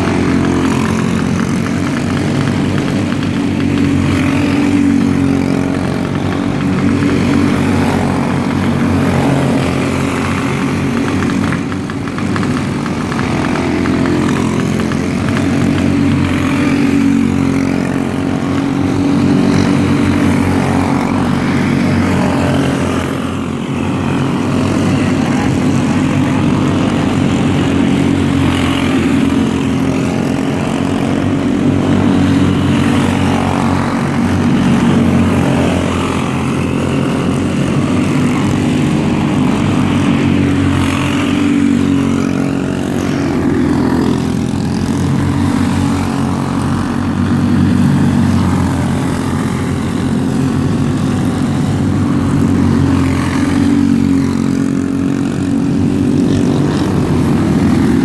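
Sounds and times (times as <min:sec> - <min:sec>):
racing kart engines buzzing: 0:00.0 - 0:58.0.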